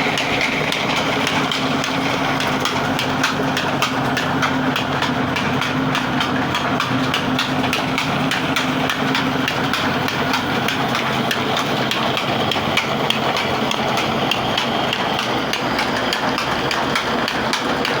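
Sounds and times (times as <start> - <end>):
heavy diesel engine running: 0.0 - 18.0
regular engine knocking: 0.0 - 18.0.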